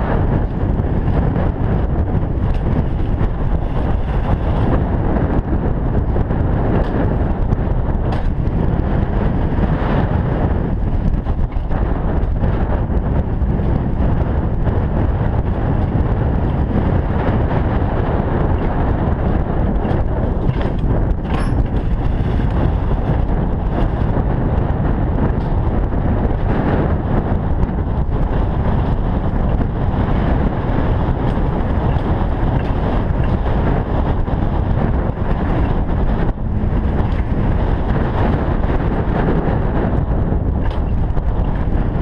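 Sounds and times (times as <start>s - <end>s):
sled wheels rolling on metal rails: 0.0s - 27.2s, 27.9s - 42.0s
wind noise on microphone: 0.0s - 42.0s.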